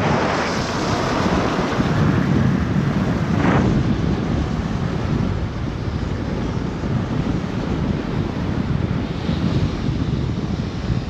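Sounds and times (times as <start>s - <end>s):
wind rushing over microphone: 0.0s - 11.0s
wind whoosh: 0.0s - 11.0s.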